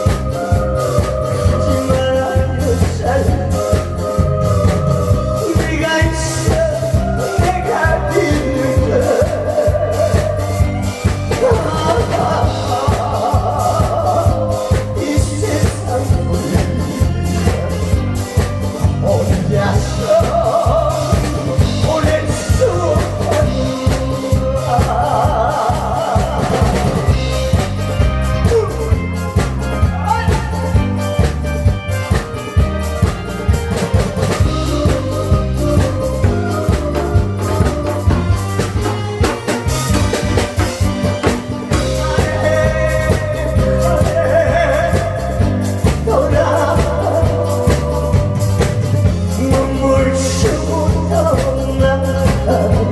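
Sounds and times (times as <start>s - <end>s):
man singing with vibrato: 0.0s - 33.1s, 34.1s - 52.9s
backing track with drum beat: 0.0s - 52.9s.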